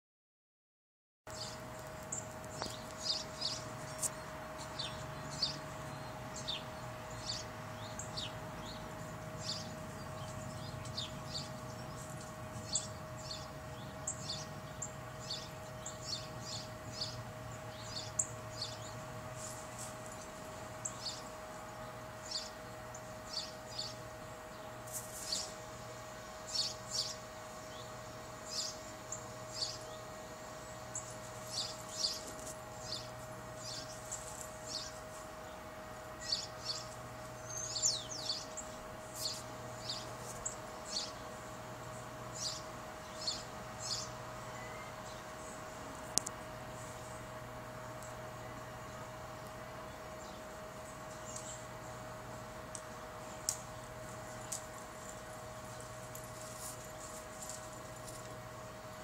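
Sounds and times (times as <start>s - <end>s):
faint steady hum: 1.3s - 59.0s
small birds chirping: 1.3s - 59.0s.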